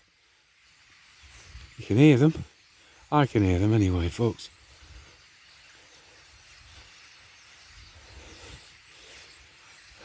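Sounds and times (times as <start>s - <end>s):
huge flock of birds chattering: 0.0s - 10.0s.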